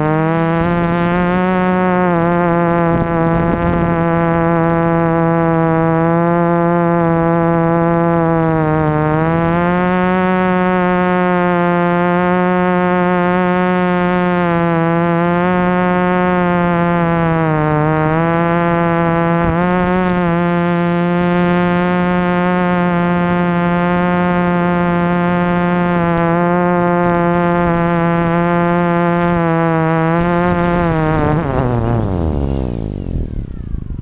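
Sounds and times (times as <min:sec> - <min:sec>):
drone motors and propellers buzzing: 0:00.0 - 0:34.0.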